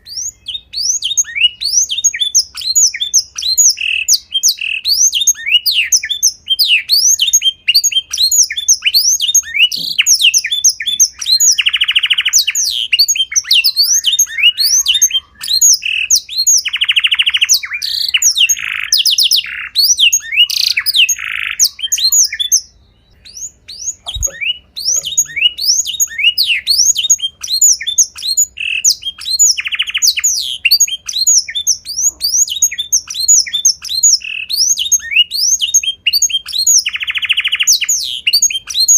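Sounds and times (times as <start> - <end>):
small songbird singing: 0.0 - 38.9.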